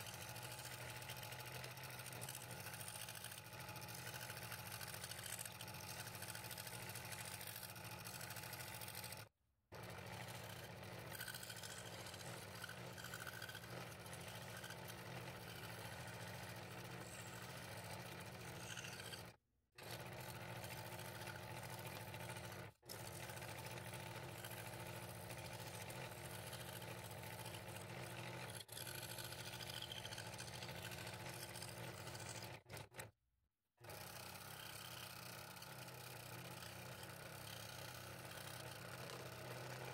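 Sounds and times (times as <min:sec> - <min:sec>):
scroll saw cutting wood: 0:00.0 - 0:33.2, 0:33.8 - 0:39.9.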